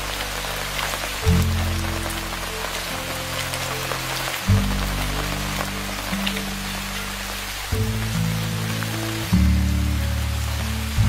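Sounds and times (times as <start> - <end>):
background music low notes: 0.0 - 11.0
steady hiss: 0.0 - 11.0.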